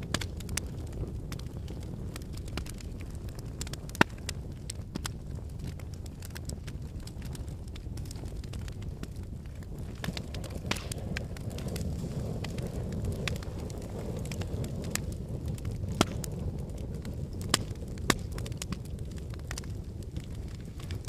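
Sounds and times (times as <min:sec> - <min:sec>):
fire pops: 0:00.0 - 0:21.0
wood fire crackling: 0:00.0 - 0:21.0.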